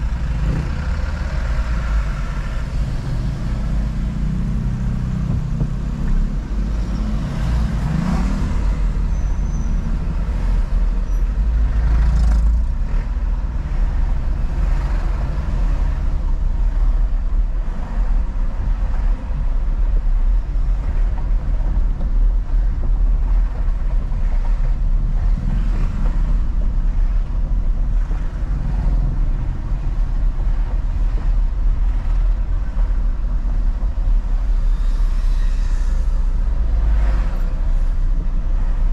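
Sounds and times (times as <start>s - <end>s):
car rumble: 0.0s - 38.9s
passing traffic: 0.0s - 38.9s.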